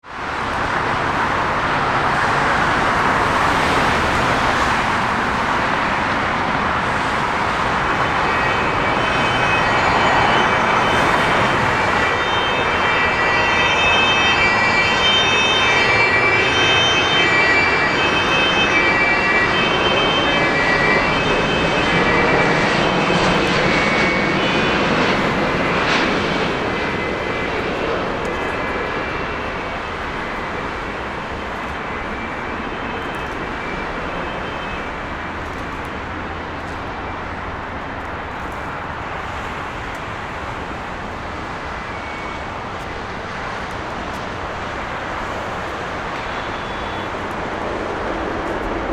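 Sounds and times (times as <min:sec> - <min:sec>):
jet airliner passing: 0:00.0 - 0:48.9.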